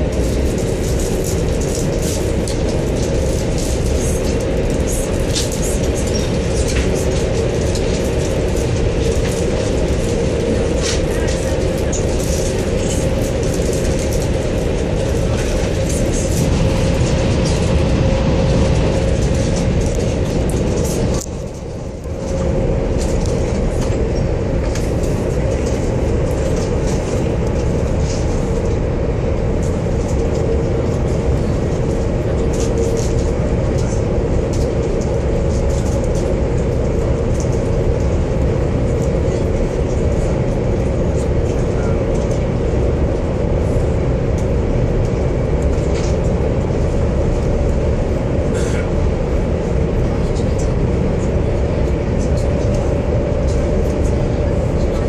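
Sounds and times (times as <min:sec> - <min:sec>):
train cabin rumble and hum: 0:00.0 - 0:55.0.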